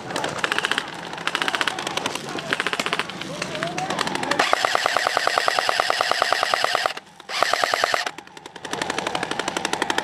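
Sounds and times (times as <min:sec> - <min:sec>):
airsoft gun full-auto fire: 0:00.4 - 0:03.2, 0:04.4 - 0:10.0.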